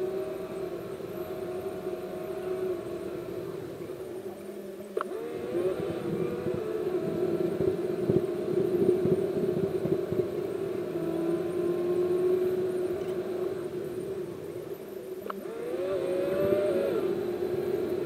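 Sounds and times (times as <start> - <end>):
car engine drone and road rumble: 0.0 - 18.0.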